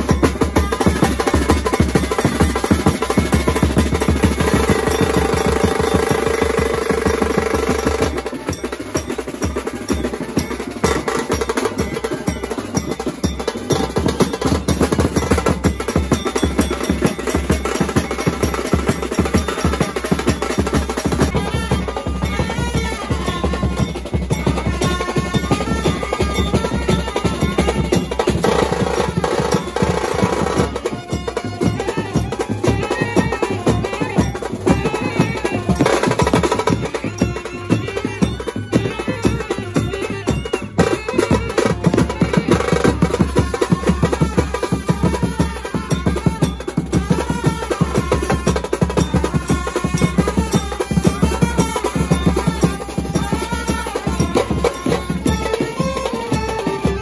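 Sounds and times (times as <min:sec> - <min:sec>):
hand drums: 0:00.0 - 0:57.0
brass band playing: 0:02.2 - 0:08.6, 0:16.7 - 0:57.0
saxophones and trumpets melody: 0:02.2 - 0:57.0.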